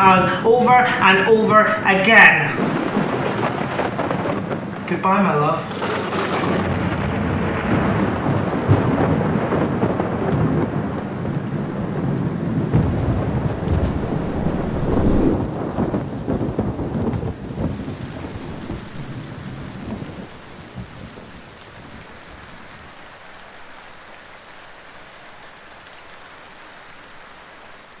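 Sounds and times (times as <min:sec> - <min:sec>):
thunder rumbling: 0:00.0 - 0:22.7
steady rain: 0:00.0 - 0:28.0.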